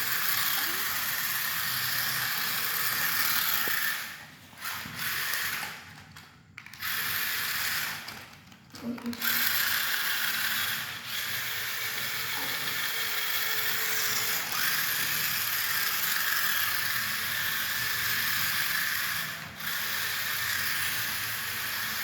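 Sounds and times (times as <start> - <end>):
toy car motor whirring: 0.0 - 22.0.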